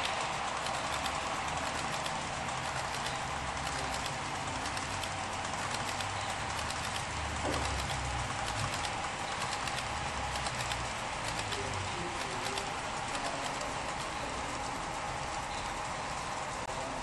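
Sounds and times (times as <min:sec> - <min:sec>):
model train rumbling: 0:00.0 - 0:17.0
wheels clicking on rail joints: 0:00.0 - 0:17.0.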